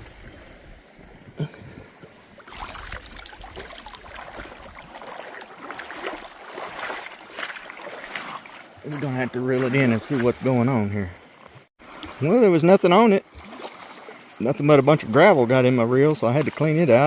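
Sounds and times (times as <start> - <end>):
lake water lapping at shore: 0.0 - 17.0.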